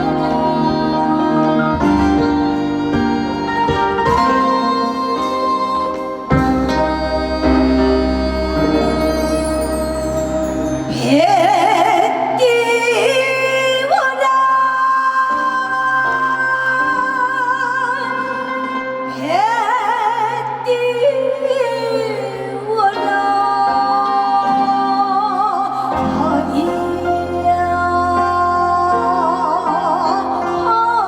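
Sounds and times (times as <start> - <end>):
woman singing folk song: 0.0 - 9.5, 10.9 - 31.0
instrumental accompaniment: 0.0 - 31.0.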